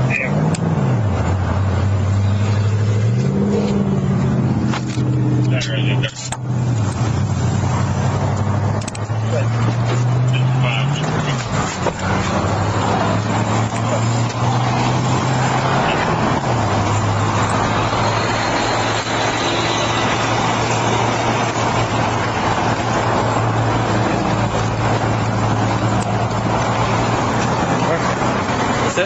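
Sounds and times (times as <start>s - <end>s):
roadway noise: 0.0s - 29.0s.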